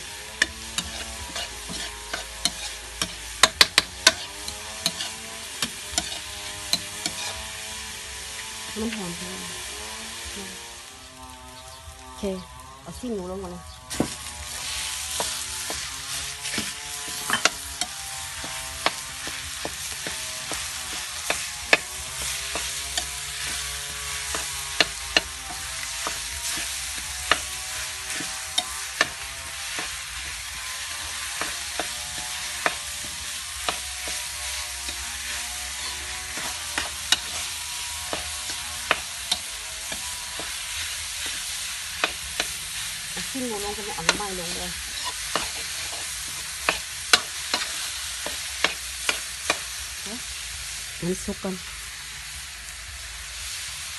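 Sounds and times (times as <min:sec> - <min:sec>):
meat sizzling in a wok: 0:00.0 - 0:53.9
metal ladle scraping wok: 0:00.1 - 0:08.5, 0:13.9 - 0:49.7.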